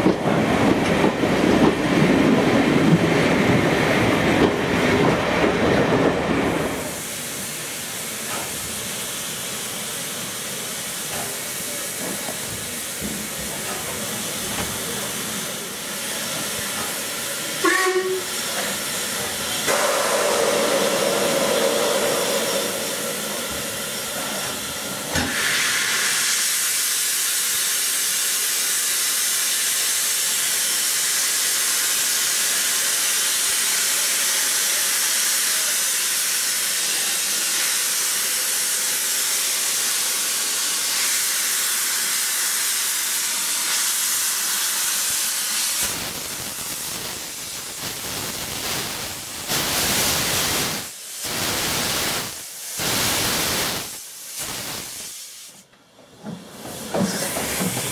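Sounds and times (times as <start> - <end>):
steam hissing from locomotive: 6.2 - 55.7, 56.3 - 57.9.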